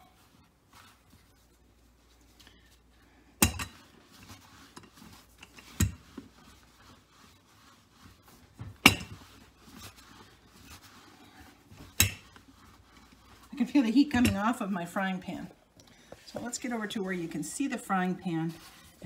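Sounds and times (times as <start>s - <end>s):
rolling pin rolling dough: 3.4s - 19.0s.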